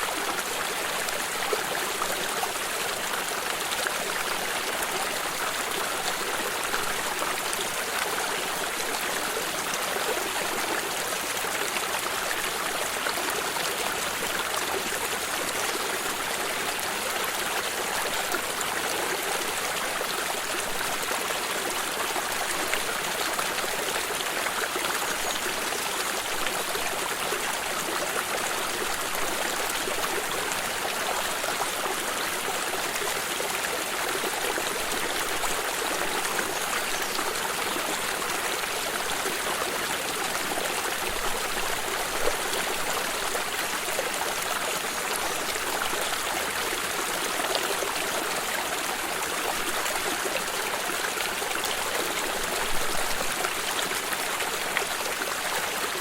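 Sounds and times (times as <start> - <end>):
stream of water flowing: 0.0 - 56.0.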